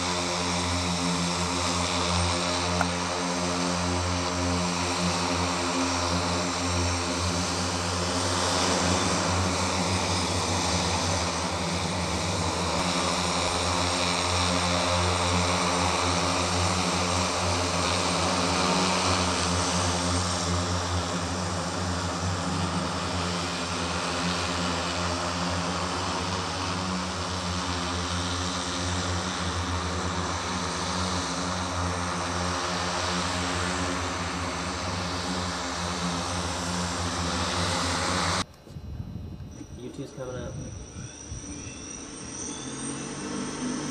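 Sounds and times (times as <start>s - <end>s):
multirotor aircraft propellers droning: 0.0s - 43.9s.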